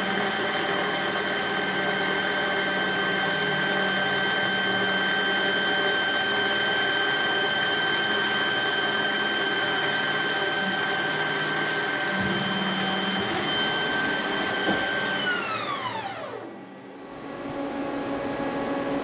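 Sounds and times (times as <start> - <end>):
lathe milling whine: 0.0 - 19.0
machine hum and hiss: 0.0 - 19.0.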